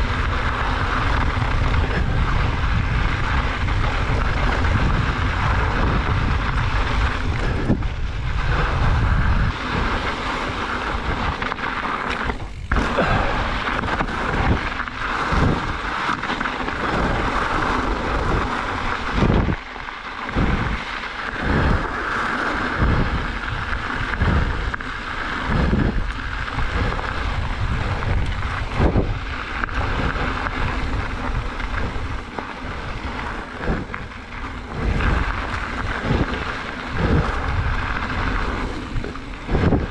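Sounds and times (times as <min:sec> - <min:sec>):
bike thumping over bumps: 0:00.0 - 0:39.9
tyres on dirt: 0:00.0 - 0:39.9
wind noise on microphone: 0:00.0 - 0:39.9.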